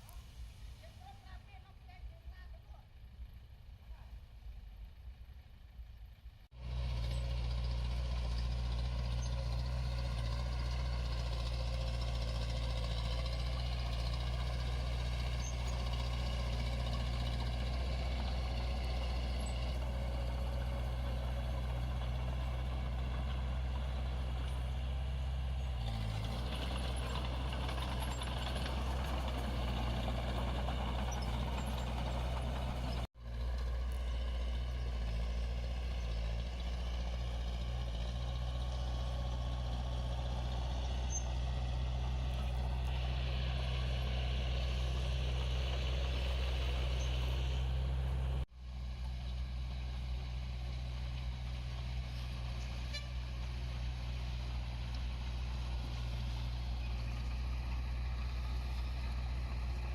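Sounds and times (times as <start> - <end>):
heavy machinery diesel engine: 4.8 - 59.9.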